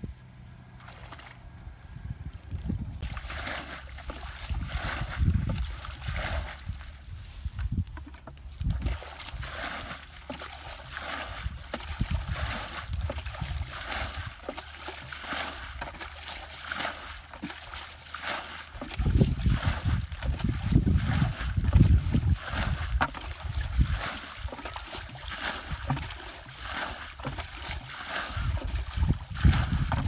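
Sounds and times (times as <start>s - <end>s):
wind rumble on microphone: 0.0s - 14.6s, 18.7s - 30.0s
muddy water splashing and sloshing: 0.5s - 30.0s.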